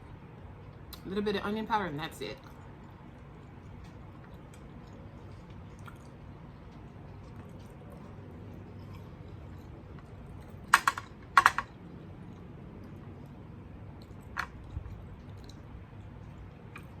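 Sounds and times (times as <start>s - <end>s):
quiet chewing: 2.4s - 10.7s, 11.7s - 17.0s.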